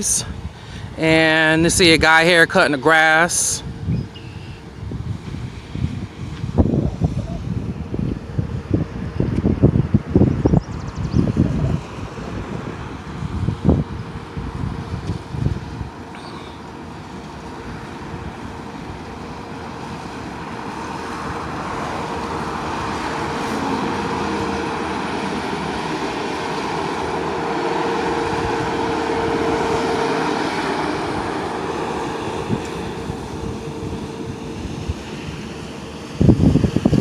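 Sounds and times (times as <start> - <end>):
engine humming: 0.0 - 37.0.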